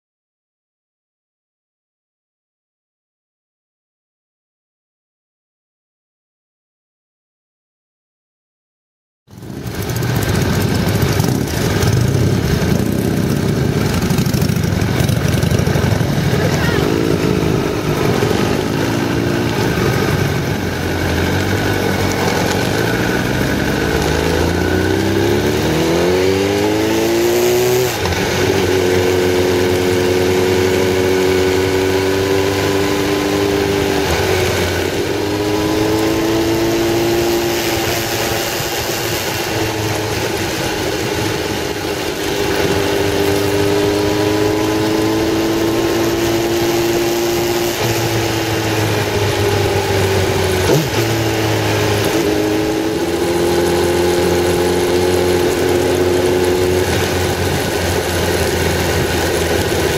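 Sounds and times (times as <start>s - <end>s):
motorcycle engine: 9.3s - 59.9s
wind noise: 9.5s - 59.9s.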